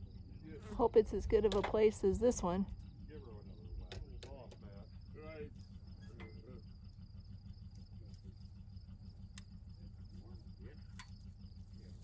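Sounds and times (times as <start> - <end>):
insects chirping: 0.0 - 12.0
low steady hum: 0.0 - 12.0.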